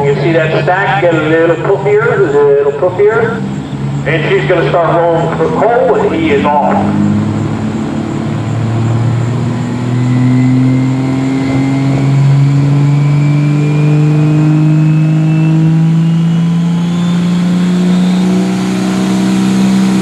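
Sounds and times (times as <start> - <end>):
diesel pickup engine under load: 0.0 - 20.0
faint high whine: 0.0 - 20.0.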